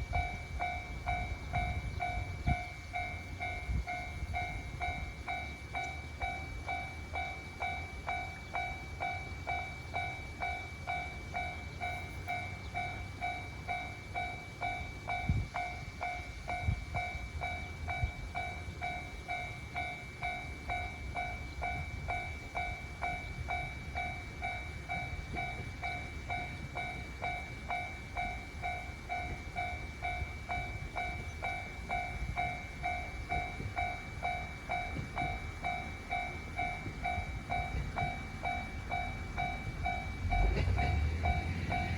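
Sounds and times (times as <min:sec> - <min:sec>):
level-crossing alarm ringing: 0:00.0 - 0:41.9.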